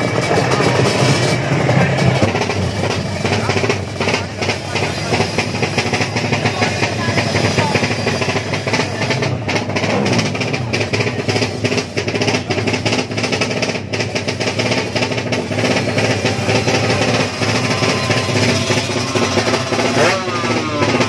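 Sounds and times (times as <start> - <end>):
racing motorcycle engine: 0.0 - 21.0.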